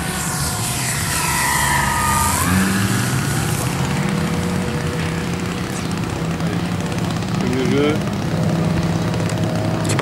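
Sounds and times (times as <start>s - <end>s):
model plane propeller drone: 0.0s - 10.0s.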